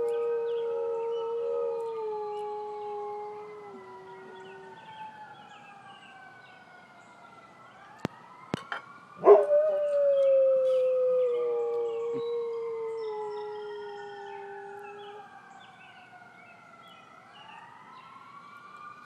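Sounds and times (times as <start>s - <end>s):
distant ambulance siren wailing: 0.0s - 19.0s.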